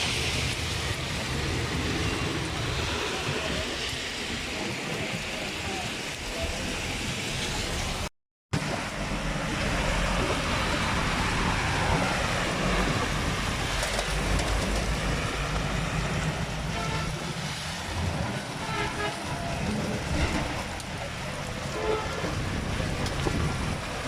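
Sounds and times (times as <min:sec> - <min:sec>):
rain: 0:00.0 - 0:24.0
tyre noise on wet street: 0:00.0 - 0:24.0.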